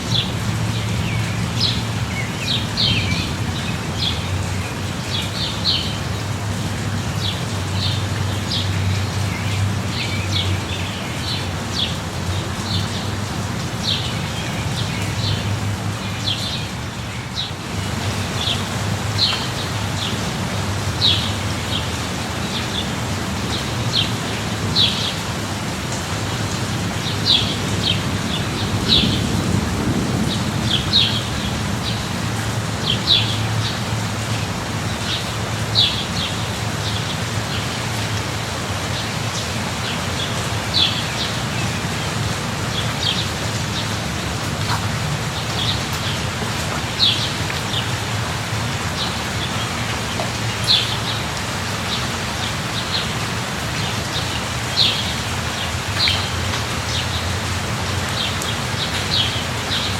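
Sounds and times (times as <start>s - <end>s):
light rain: 0.0s - 59.9s.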